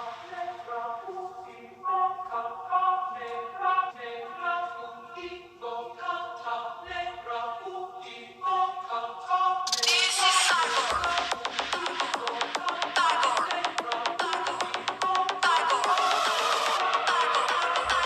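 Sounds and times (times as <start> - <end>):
choir-like sung chords: 0.0 - 18.0.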